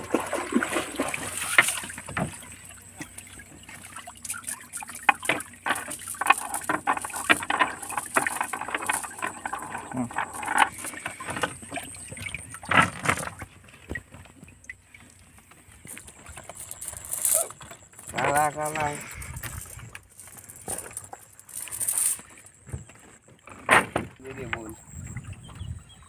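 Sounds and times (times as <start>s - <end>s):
water splashing and dripping: 0.0s - 22.6s.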